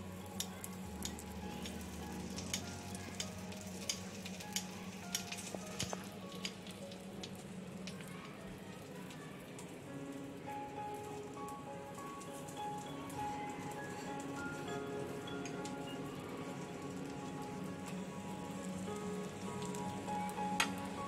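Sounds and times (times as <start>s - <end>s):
butter sizzling in a frying pan: 0.1s - 21.0s.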